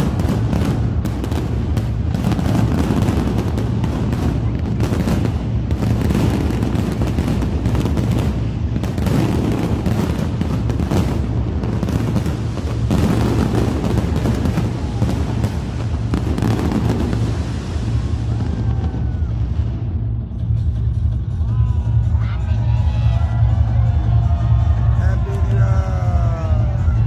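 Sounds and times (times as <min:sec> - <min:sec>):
fireworks bangs and crackles: 0:00.0 - 0:21.0, 0:23.6 - 0:27.0
deep steady rumble: 0:00.0 - 0:22.2.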